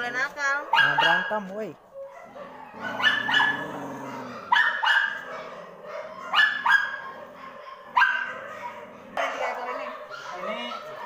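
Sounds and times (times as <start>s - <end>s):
puppies yapping: 0.6s - 11.0s.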